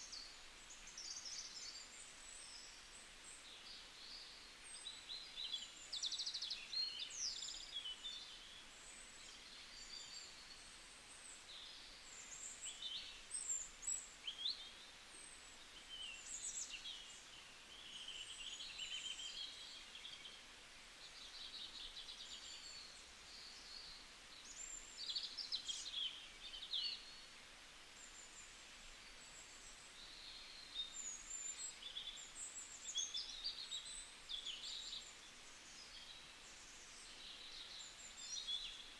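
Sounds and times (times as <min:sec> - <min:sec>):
faint background hiss: 0:00.0 - 0:38.9.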